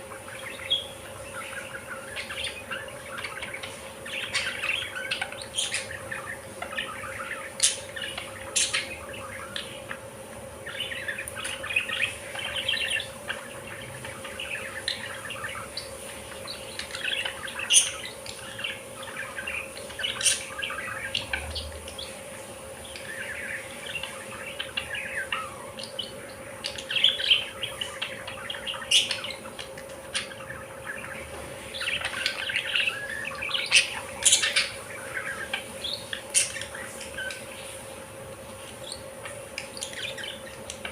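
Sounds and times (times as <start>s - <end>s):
budgerigars chattering and chirping: 0.0s - 40.9s
low electrical hum: 0.0s - 40.9s.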